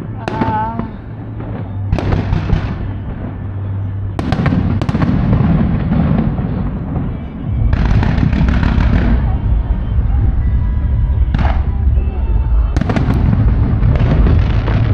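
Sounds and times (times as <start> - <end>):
deep rumble: 0.0 - 14.9
fireworks crackling: 0.0 - 14.9.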